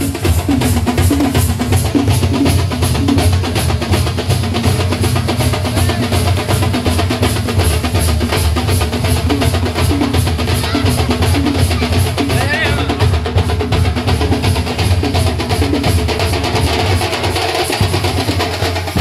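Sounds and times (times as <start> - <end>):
large drums beaten with sticks: 0.0 - 19.0.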